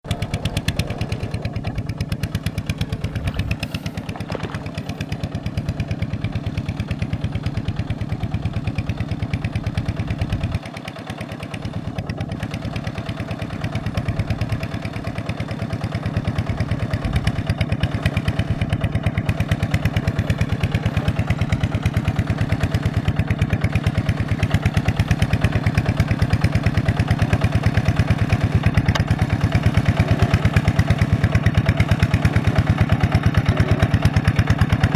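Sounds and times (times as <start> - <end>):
diesel engine chugging: 0.1 - 34.9.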